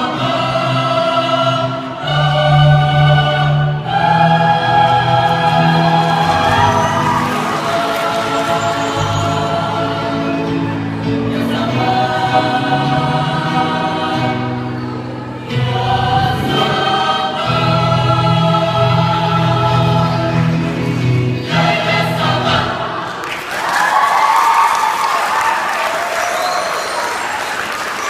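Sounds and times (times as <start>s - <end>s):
mixed choir singing: 0.0s - 24.0s.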